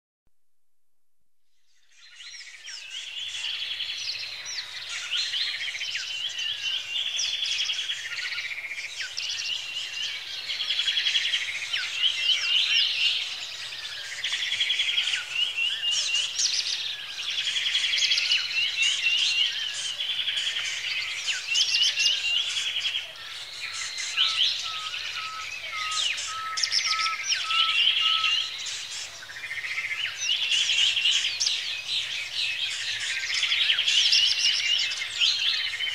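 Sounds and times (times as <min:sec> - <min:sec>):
songbirds singing: 0:01.6 - 0:35.9.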